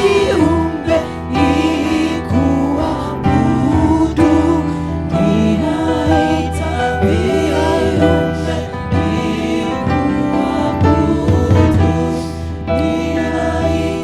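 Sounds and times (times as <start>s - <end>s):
gospel choir singing: 0.0s - 14.0s.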